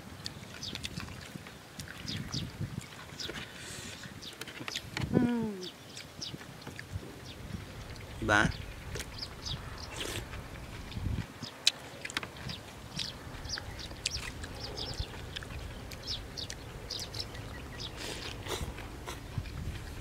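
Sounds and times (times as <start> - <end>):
wet chewing and slurping: 0.2 - 5.1, 5.8 - 20.0.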